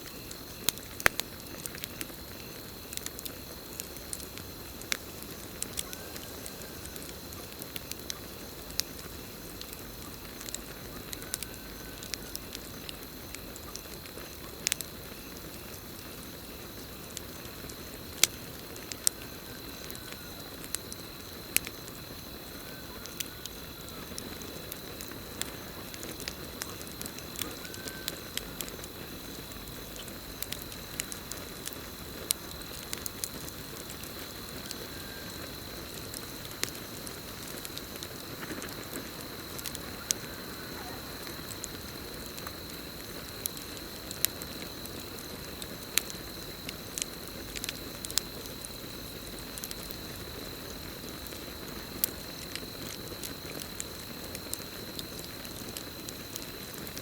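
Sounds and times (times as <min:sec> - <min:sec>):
campfire crackling: 0:00.0 - 0:57.0
crickets trilling: 0:00.0 - 0:57.0.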